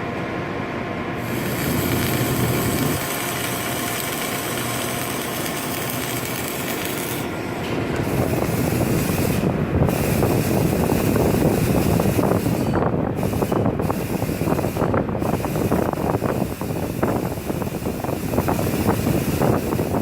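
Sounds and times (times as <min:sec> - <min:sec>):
steady industrial noise: 0:00.0 - 0:20.0
arc welding crackle: 0:01.2 - 0:20.0.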